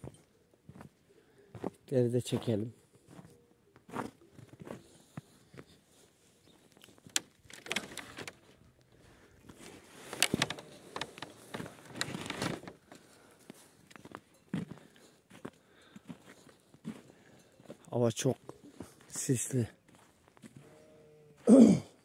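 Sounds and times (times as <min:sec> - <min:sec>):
footsteps crunching in snow: 0:00.0 - 0:06.7, 0:09.1 - 0:20.9.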